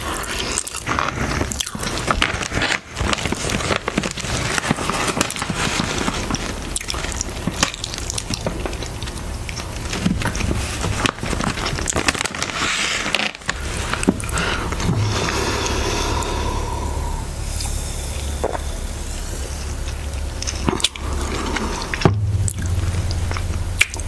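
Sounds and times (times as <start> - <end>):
snack bag crinkling: 0.0 - 15.9, 18.2 - 24.0
crunching and chewing crisps: 0.0 - 24.0.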